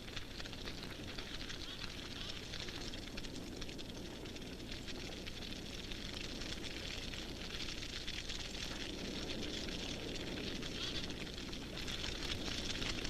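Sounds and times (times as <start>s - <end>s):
grass fire crackling: 0.0s - 13.0s
low steady rumble: 0.0s - 13.0s.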